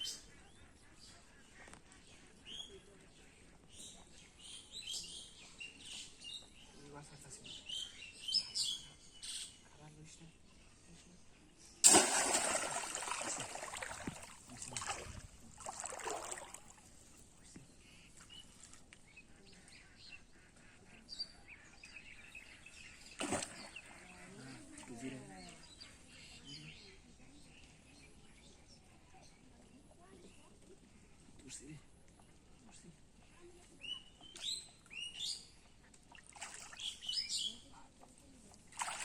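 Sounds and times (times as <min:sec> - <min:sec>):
small birds chirping: 0:00.0 - 0:11.8, 0:12.6 - 0:39.0.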